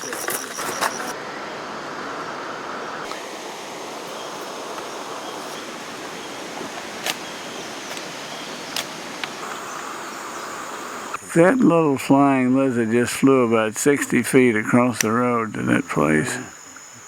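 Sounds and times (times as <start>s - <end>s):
rushing hiss of outdoor ambience: 0.0s - 17.0s.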